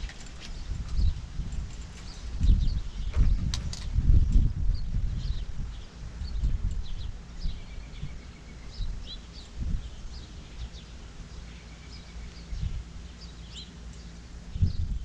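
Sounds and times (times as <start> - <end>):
wind gusting over microphone: 0.0 - 11.4, 12.4 - 13.6, 14.3 - 15.0
birds chirping: 0.0 - 15.0.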